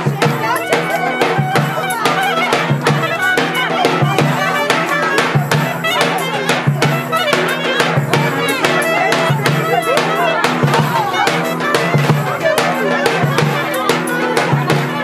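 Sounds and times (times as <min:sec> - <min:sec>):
reed instrument folk melody: 0:00.0 - 0:15.0
steady drum beat: 0:00.0 - 0:15.0.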